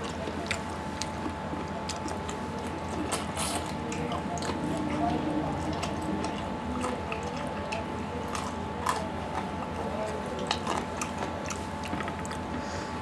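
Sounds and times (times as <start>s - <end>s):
open-mouthed chewing: 0.0s - 13.0s.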